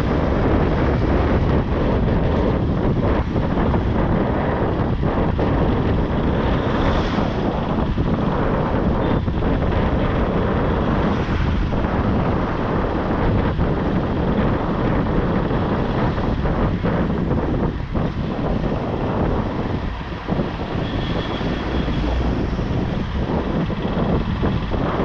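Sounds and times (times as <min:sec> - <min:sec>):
road and traffic noise: 0:00.0 - 0:25.0
wind rushing over microphone: 0:00.0 - 0:25.0.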